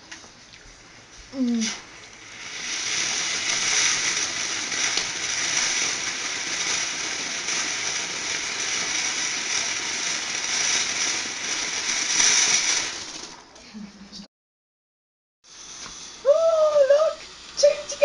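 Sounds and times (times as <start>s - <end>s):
faint firework crackles: 0.1s - 13.5s, 15.5s - 18.0s
firework burning with rushing hiss: 0.8s - 13.5s, 15.4s - 18.0s.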